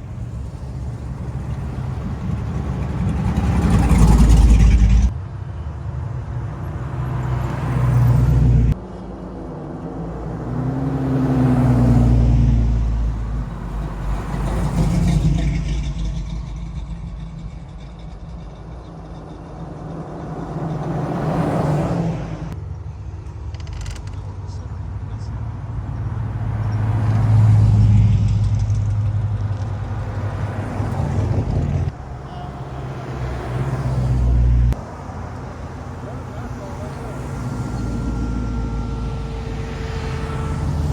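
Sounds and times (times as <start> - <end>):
car engines passing: 0.0 - 40.9.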